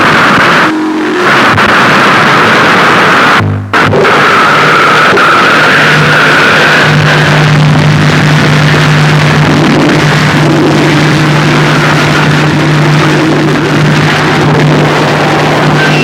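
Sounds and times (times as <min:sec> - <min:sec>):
low hum: 0:00.0 - 0:16.0
wall of distorted noise: 0:00.0 - 0:16.0
wavering engine-like tone: 0:00.0 - 0:16.0.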